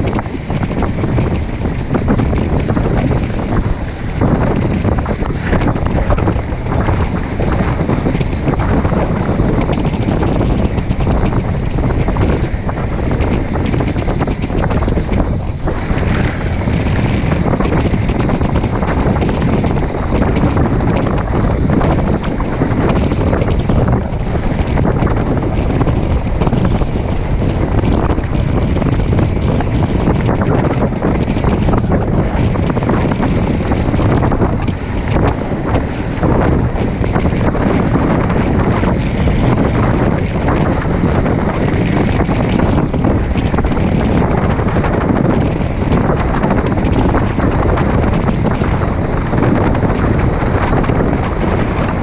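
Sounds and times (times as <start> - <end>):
tyres rolling on dirt road: 0.0 - 52.0
wind buffeting microphone: 0.0 - 52.0.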